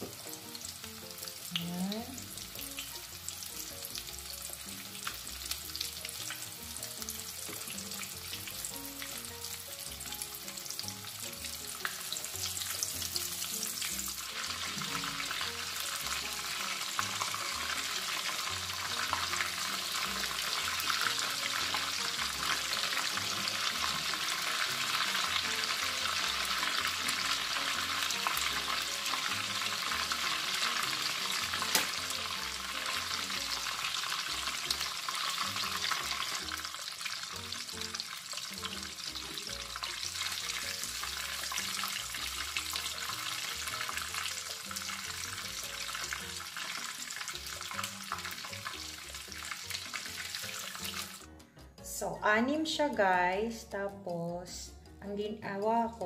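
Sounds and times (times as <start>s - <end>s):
meatballs sizzling in oil: 0.0s - 51.4s.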